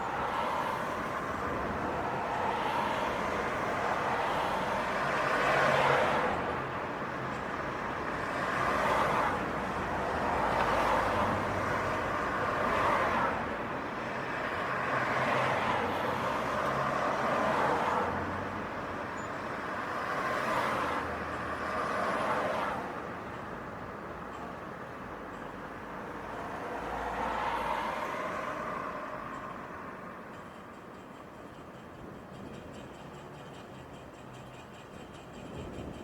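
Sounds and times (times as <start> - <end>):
cars passing: 0.0 - 7.0, 7.9 - 30.3.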